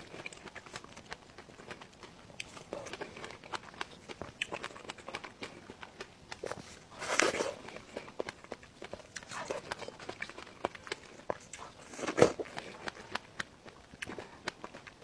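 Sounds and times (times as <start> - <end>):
person chewing and crunching: 0.0 - 15.0.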